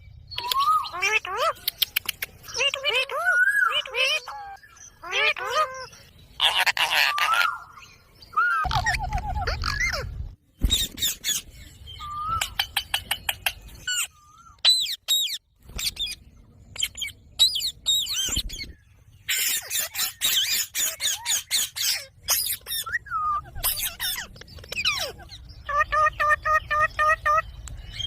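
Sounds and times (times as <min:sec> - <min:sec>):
parrot chirping and squawking: 0:00.4 - 0:07.8, 0:08.4 - 0:16.2, 0:16.8 - 0:27.5.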